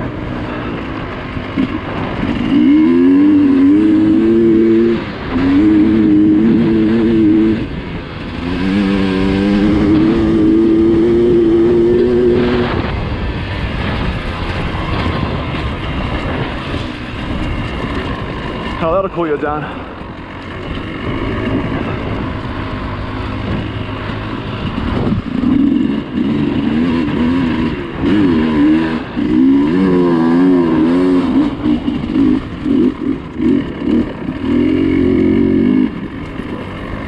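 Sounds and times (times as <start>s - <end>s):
dirt bike engine revving: 0.0s - 37.0s
wind noise: 0.0s - 37.0s.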